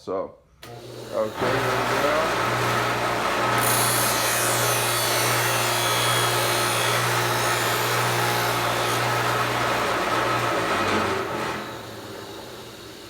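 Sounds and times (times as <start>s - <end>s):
machine motor hum: 0.6s - 13.0s.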